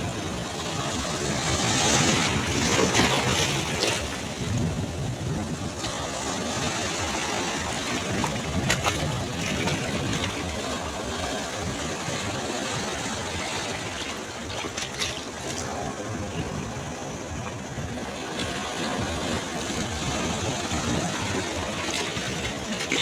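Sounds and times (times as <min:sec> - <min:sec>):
sea waves on shore: 0:00.0 - 0:23.0.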